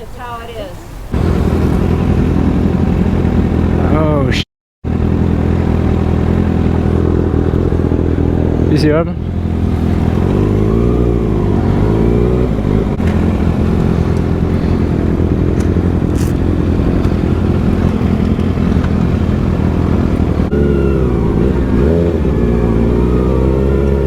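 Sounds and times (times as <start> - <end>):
motorcycle engine running: 1.1 - 24.0.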